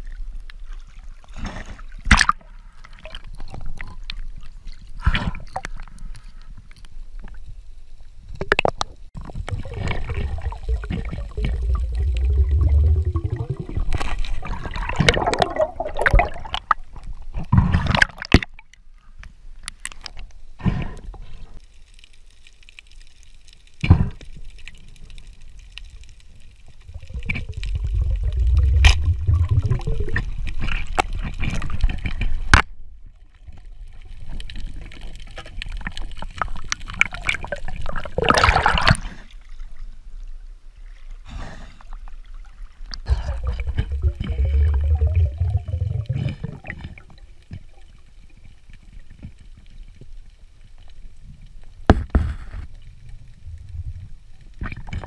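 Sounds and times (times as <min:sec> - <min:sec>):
underwater bubbling and gurgling: 0:00.0 - 0:18.9, 0:19.5 - 0:55.0.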